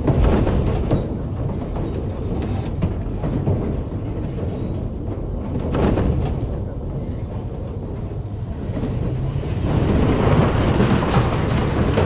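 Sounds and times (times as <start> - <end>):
heavy machinery rumbling: 0.0 - 12.0.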